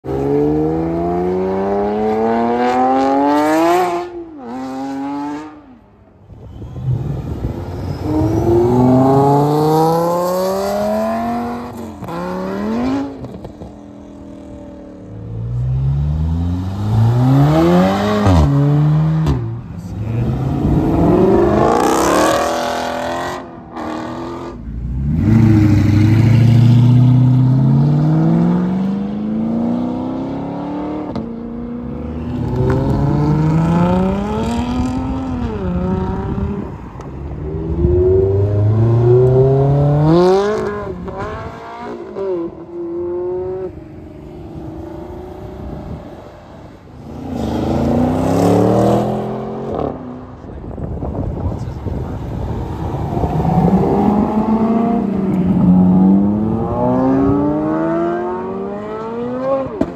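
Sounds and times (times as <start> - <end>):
sports cars accelerating hard: 6.4 - 59.9.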